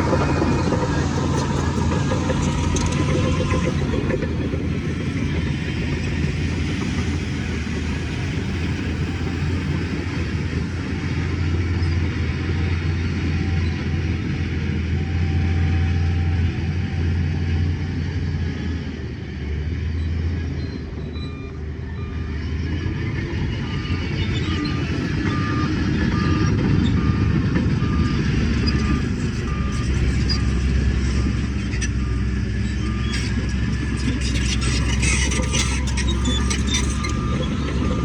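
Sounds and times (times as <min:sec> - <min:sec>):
diesel machinery engine drone: 0:00.0 - 0:38.0.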